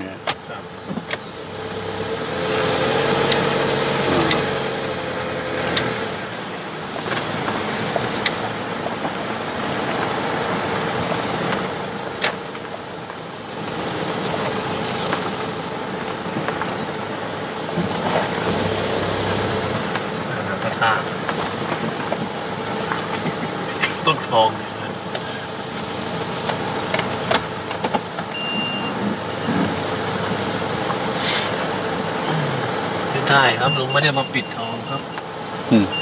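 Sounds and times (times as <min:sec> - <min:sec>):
car engine and road noise: 0:00.0 - 0:36.0.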